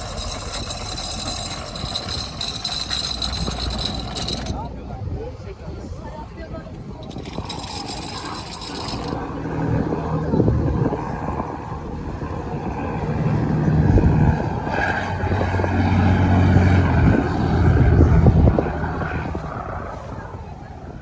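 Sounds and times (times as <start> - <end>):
boat engine humming: 0.0 - 4.9, 6.7 - 20.6.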